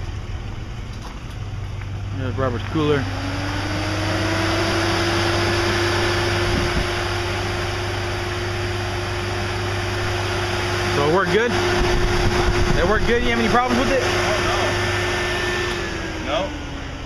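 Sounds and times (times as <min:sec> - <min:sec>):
electric blower whining: 0:03.0 - 0:17.0.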